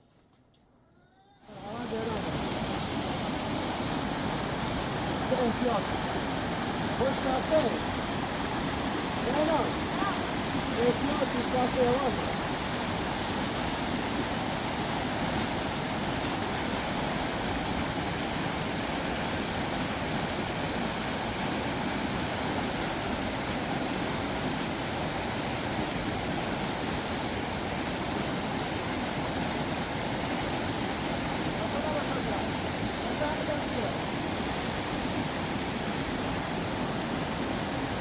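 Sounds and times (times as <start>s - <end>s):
river rushing over rocks: 1.4s - 38.0s.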